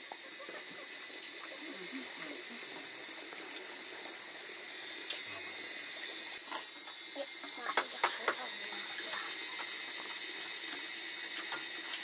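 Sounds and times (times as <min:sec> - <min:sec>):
chorus of frogs and insects: 0:00.0 - 0:12.0.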